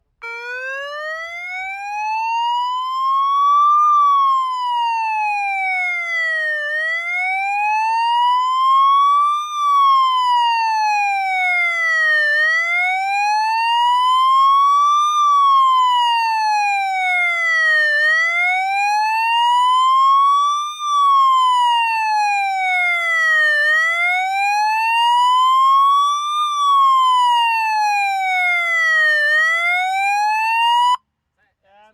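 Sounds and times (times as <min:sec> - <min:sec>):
motorcycle siren wailing: 0:00.2 - 0:31.0.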